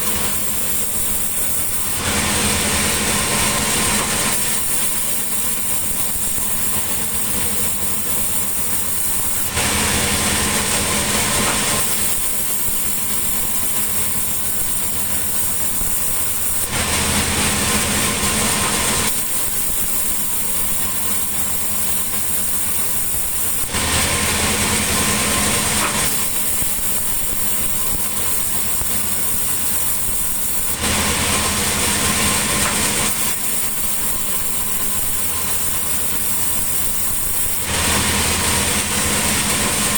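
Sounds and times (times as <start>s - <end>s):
saw hissing through timber: 0.0s - 39.9s
sawmill engine hum: 0.0s - 39.9s.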